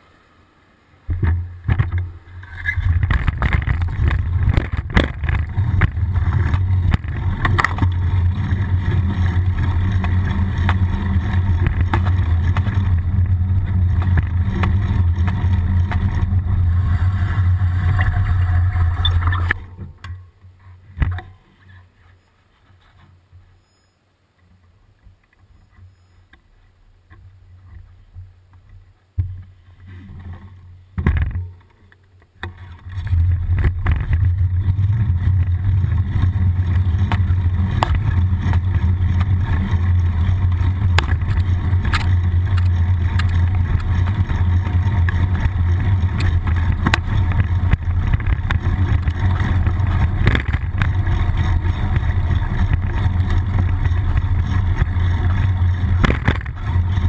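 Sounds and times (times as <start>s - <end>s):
wind and road rumble: 0.0s - 23.6s, 24.5s - 57.0s
bicycle rattles and clicks: 1.1s - 21.7s, 27.1s - 57.0s.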